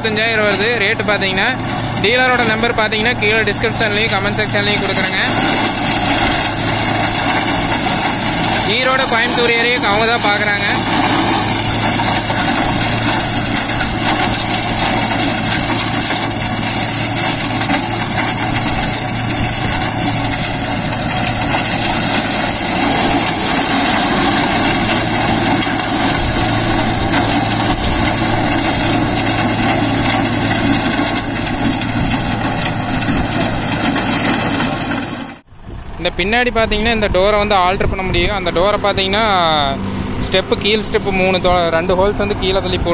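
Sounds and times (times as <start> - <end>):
tractor engine with flail shredder: 0.0 - 42.9.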